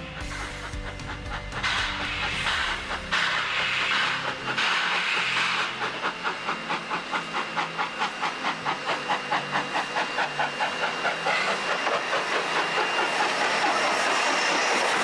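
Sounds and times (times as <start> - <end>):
steam hissing: 0.0 - 15.0
steam locomotive chuffing: 0.0 - 15.0.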